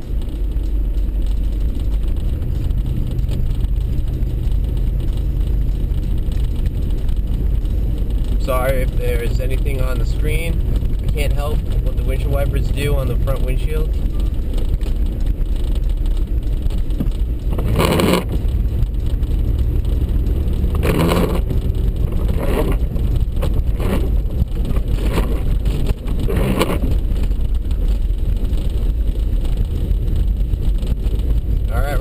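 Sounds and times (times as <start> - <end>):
vehicle rumble on snowy road: 0.0 - 32.0
windshield wiper strokes: 0.3 - 32.0.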